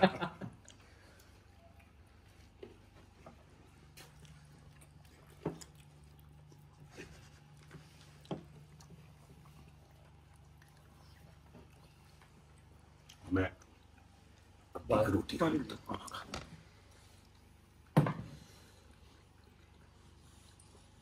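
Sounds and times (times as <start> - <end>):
low steady hum: 0.0 - 21.0
faint chewing: 0.4 - 21.0.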